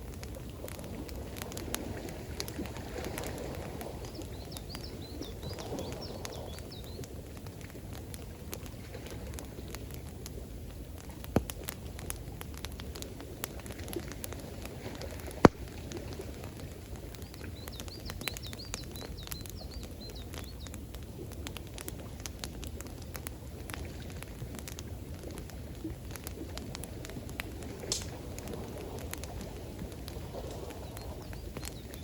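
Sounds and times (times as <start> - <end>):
campfire crackling and popping: 0.0 - 32.0
rushing water: 0.0 - 32.0.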